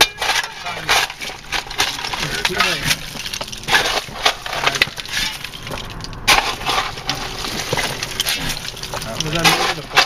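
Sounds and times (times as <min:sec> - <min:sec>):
rock crunching and clattering: 0:00.0 - 0:10.0
shovel scraping: 0:00.0 - 0:10.0.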